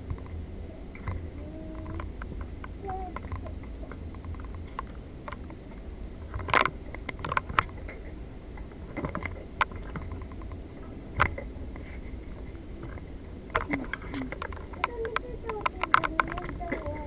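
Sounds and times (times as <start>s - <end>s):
low steady hum: 0.0s - 17.0s
sharp clicks and knocks: 0.0s - 17.0s.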